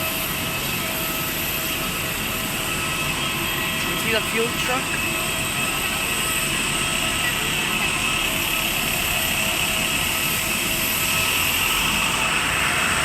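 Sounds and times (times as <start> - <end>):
jet engine whining rush: 0.0 - 13.0.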